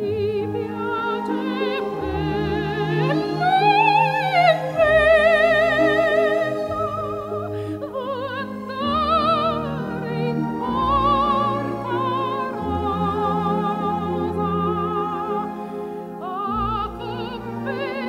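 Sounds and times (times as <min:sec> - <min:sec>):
operatic singing voice: 0:00.0 - 0:18.0
orchestral accompaniment: 0:00.0 - 0:18.0.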